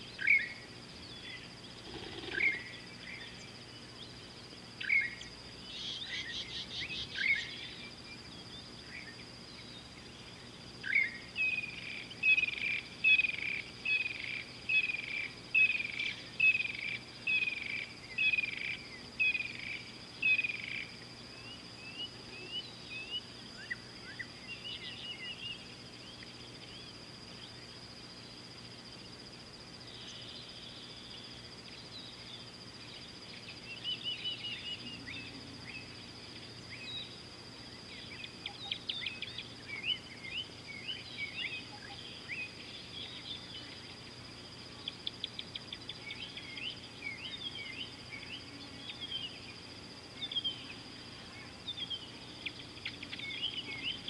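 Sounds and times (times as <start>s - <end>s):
steady high-pitched whine: 0.0s - 54.0s.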